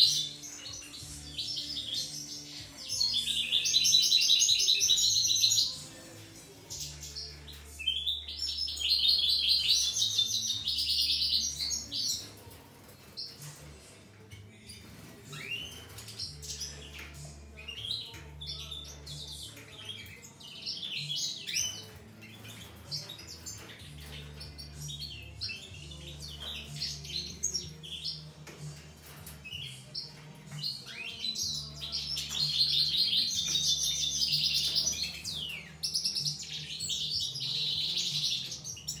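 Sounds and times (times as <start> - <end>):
goldfinches singing: 0.0 - 12.4, 14.6 - 39.0.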